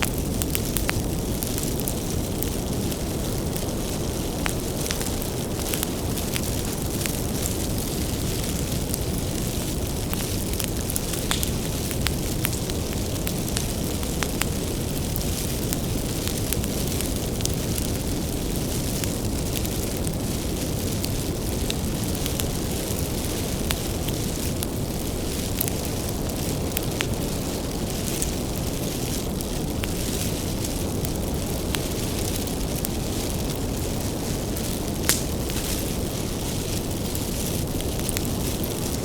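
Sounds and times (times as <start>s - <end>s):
bonfire crackling and rumbling: 0.0s - 39.0s.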